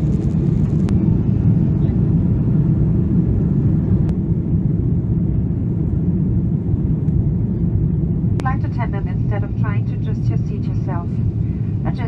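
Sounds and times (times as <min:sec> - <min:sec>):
aircraft engine and airflow rumble: 0:00.0 - 0:12.0.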